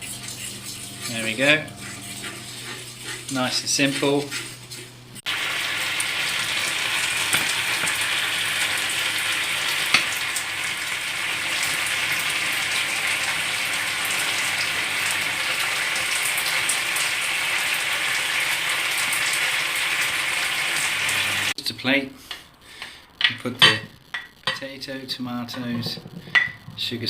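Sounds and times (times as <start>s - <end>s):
sauce sizzling in a frying pan: 0.0s - 25.6s.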